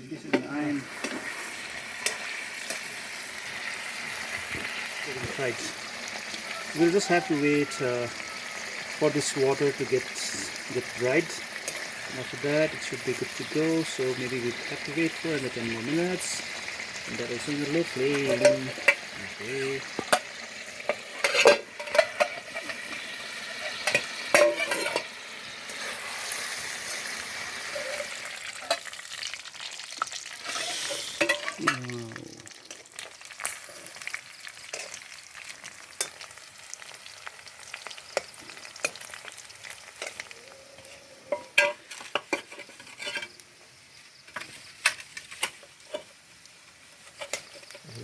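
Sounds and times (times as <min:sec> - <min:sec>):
chicken sizzling in a pan: 0:00.0 - 0:48.0.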